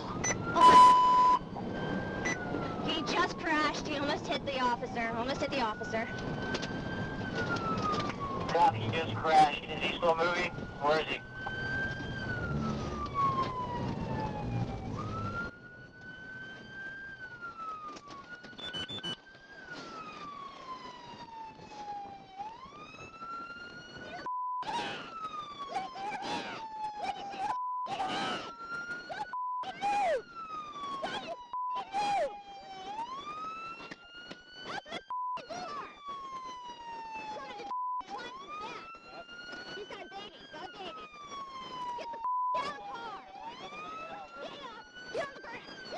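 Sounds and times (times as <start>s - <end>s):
police siren wailing: 0.0s - 45.9s
road rumble: 0.0s - 45.9s
steady siren tone: 0.0s - 45.9s.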